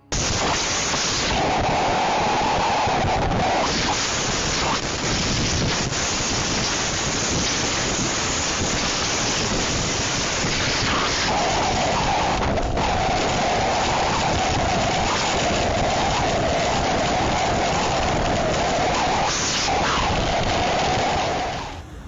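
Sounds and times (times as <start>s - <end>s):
whistling wind: 0.0s - 22.0s
hurricane wind: 0.1s - 22.0s
driving rain: 0.8s - 21.7s.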